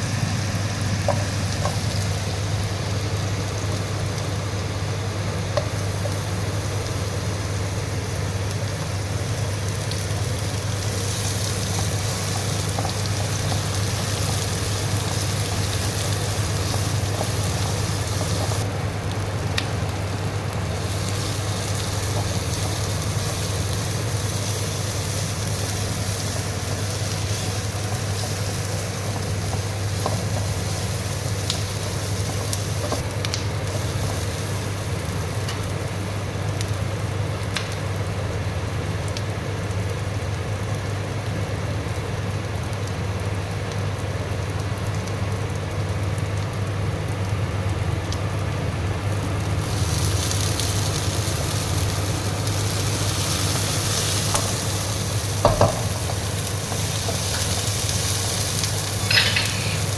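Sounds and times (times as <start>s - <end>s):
food sizzling in hot oil: 0.0s - 59.9s.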